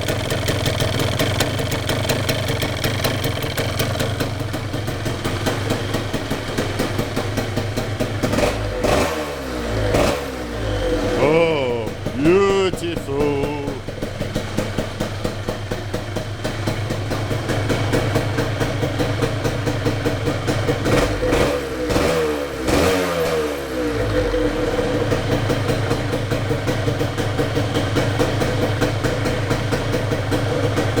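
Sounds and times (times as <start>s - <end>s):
two-stroke engine idling and revving: 0.0s - 11.2s, 14.7s - 31.0s.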